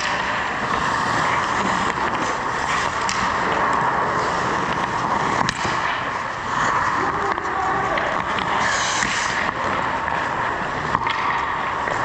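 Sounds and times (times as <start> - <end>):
hockey sticks and puck clacking: 0.0 - 12.0
skates scraping ice: 0.0 - 12.0.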